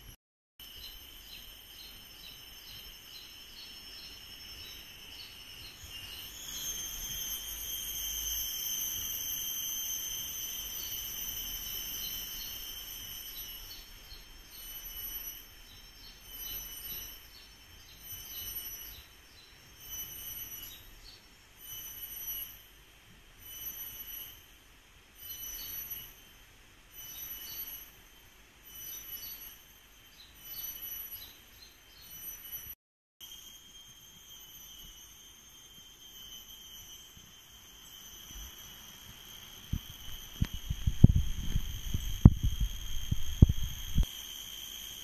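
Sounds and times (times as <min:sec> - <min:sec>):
insects droning shrilly: 0:00.0 - 0:45.0.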